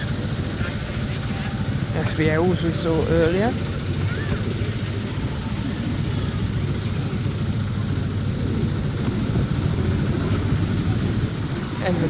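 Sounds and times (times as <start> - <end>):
ride train engine drone: 0.0 - 12.0.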